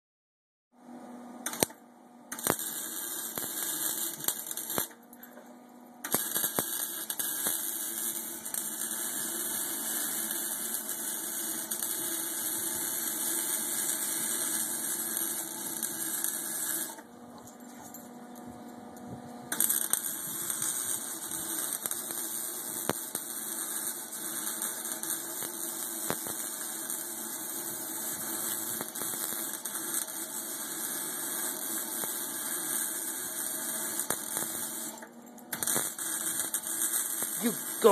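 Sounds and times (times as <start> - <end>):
welding arc crackling and hissing: 1.4 - 5.0, 6.0 - 17.1, 19.5 - 37.9.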